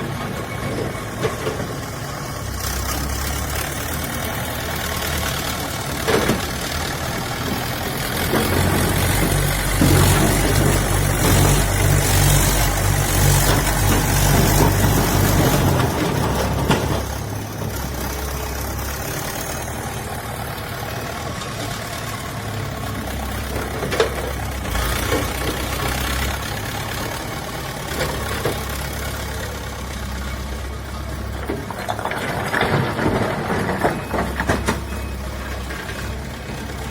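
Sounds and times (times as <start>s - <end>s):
heavy machinery diesel engine: 0.0s - 36.9s.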